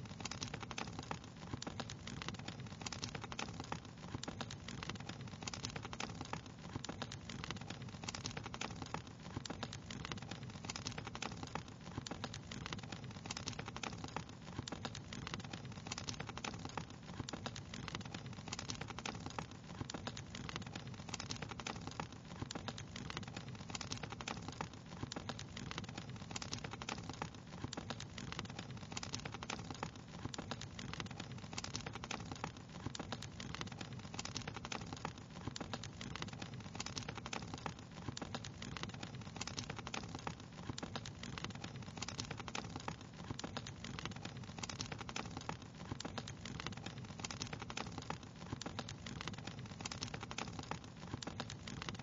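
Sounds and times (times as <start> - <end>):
wood fire pops and snaps: 0.0 - 52.0.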